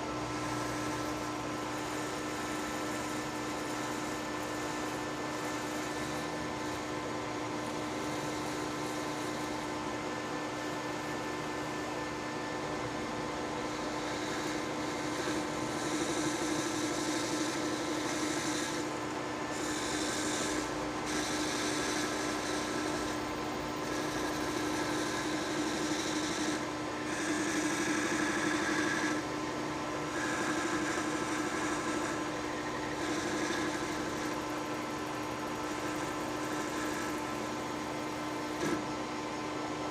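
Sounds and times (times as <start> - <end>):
lathe tool cutting metal: 0.0 - 39.0
metal lathe humming: 0.0 - 39.8.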